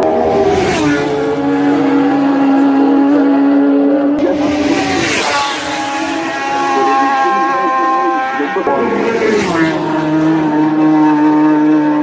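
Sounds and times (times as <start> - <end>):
motorcycle engine at high revs: 0.0 - 12.0
motorcycle rushing past: 0.0 - 12.0.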